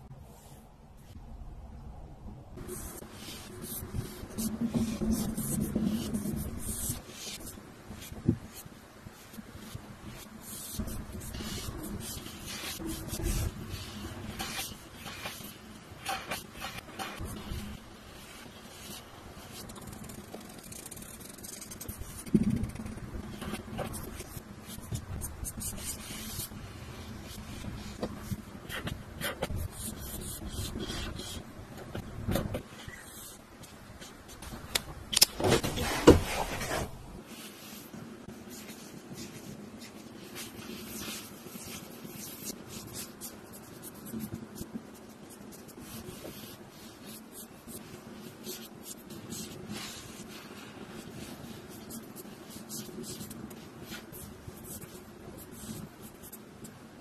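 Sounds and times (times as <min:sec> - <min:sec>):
pen scratching on paper: 0:02.6 - 0:34.4, 0:35.8 - 0:56.7.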